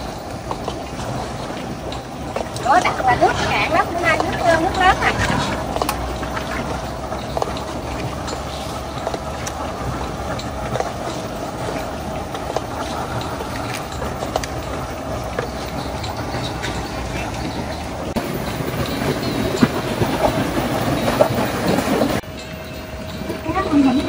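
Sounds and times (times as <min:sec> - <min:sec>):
boat engine rumbling: 0:00.0 - 0:24.0.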